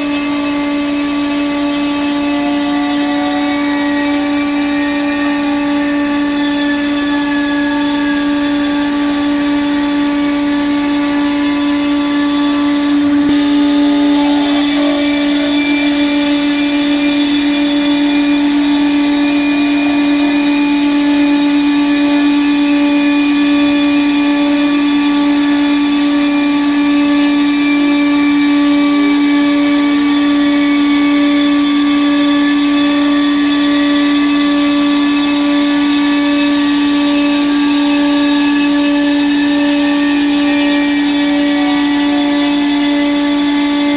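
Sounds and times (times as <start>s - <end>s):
router spindle high whine: 0.0s - 43.9s.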